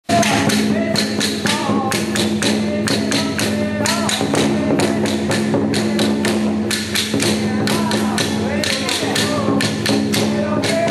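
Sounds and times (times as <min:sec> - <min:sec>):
rapid drum and cymbal strikes: 0:00.0 - 0:10.9.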